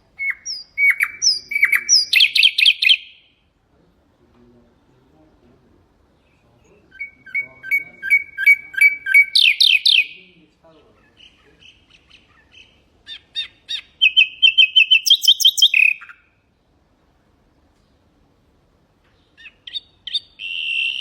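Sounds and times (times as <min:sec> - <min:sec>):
nightingale singing: 0:00.0 - 0:03.5, 0:04.8 - 0:16.6, 0:19.0 - 0:21.0.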